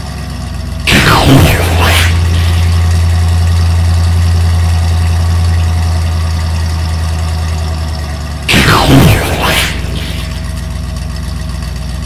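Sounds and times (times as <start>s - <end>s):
monster truck engine rumbling: 0.0s - 12.0s.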